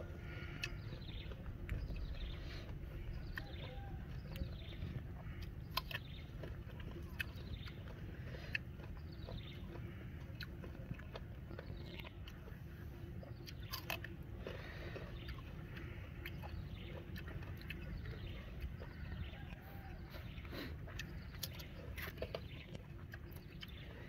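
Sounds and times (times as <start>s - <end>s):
person chewing shrimp: 0.0s - 24.0s
steady low rumble: 0.0s - 24.0s.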